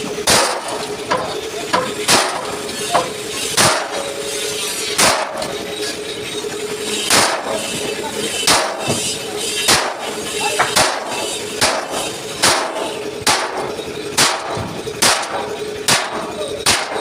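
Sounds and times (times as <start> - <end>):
hammer striking steel bumper: 0.0 - 5.9, 6.6 - 17.0.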